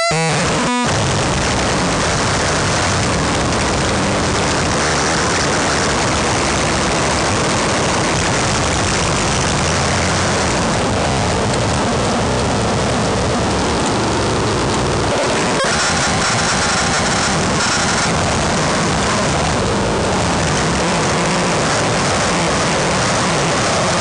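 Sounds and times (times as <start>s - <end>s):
harsh distorted noise music: 0.0s - 24.0s.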